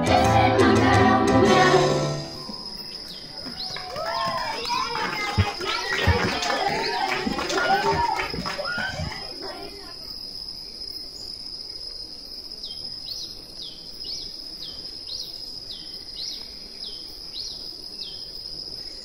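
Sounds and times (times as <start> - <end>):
cricket trilling: 2.2 - 19.0.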